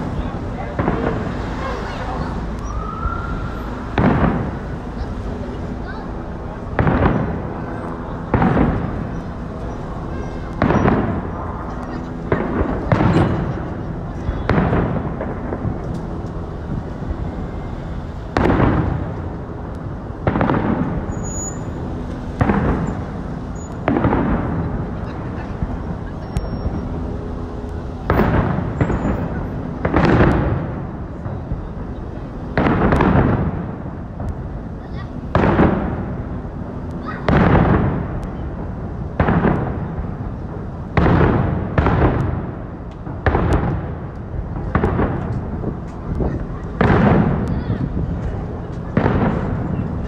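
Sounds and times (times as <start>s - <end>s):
firework shells booming: 0.0s - 50.0s
low background rumble: 0.0s - 50.0s.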